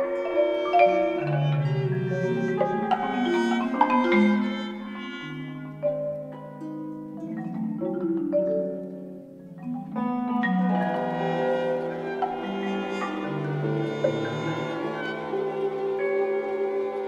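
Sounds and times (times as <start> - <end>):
instrumental music with held notes: 0.0 - 17.0.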